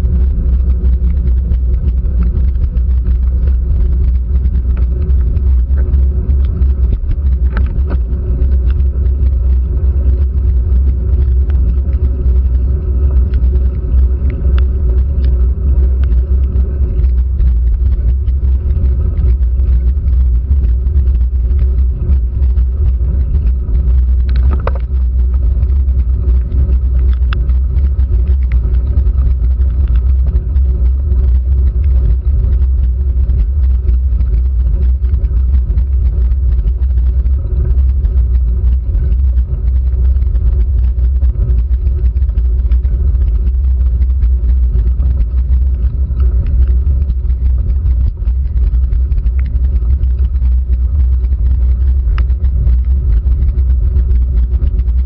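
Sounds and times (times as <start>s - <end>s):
faint ticks: 0.0s - 55.0s
road vibration rumble: 0.0s - 55.0s.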